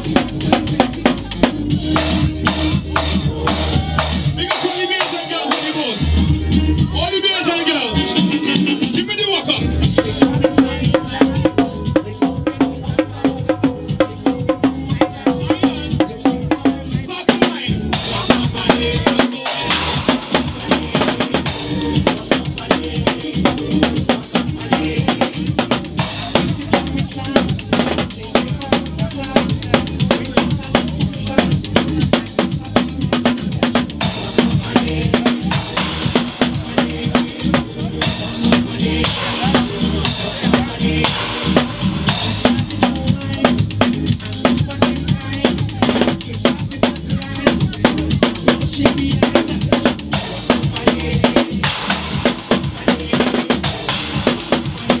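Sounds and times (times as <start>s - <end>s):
drum kit played fast: 0.0s - 55.0s.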